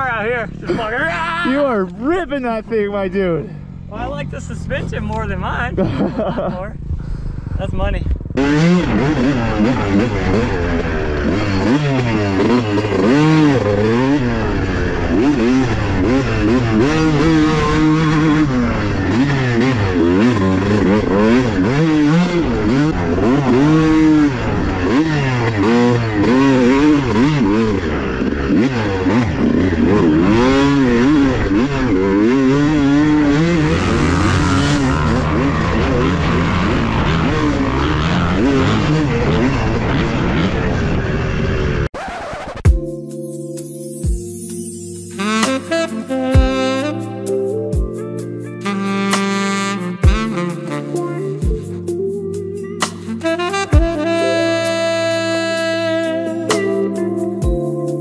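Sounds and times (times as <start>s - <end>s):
dirt bike engine revving: 0.0s - 42.9s, 45.1s - 57.6s.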